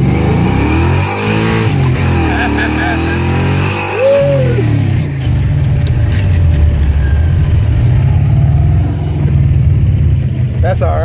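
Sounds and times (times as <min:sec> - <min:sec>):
car engine accelerating at full throttle: 0:00.0 - 0:11.0.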